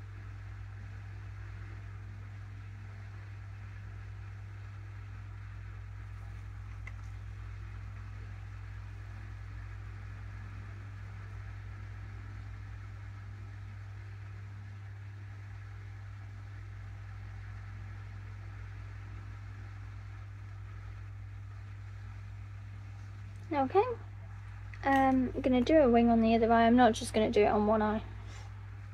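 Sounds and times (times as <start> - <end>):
faint background noise: 0.0 - 28.9
steady low hum: 0.0 - 28.9.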